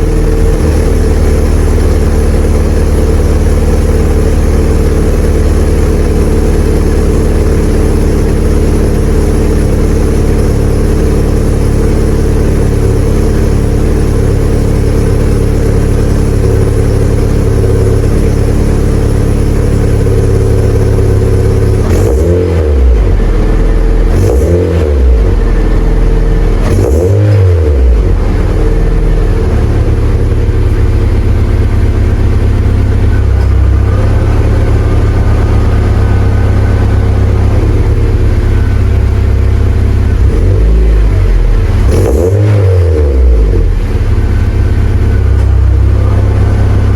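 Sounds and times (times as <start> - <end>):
car exhaust idling and revving: 0.0 - 46.9.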